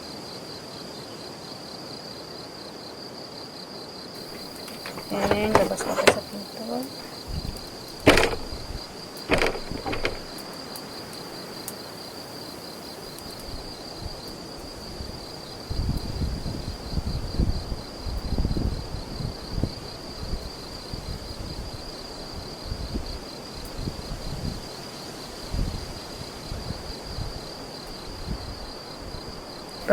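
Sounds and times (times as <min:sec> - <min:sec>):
crickets trilling: 0:04.2 - 0:29.9.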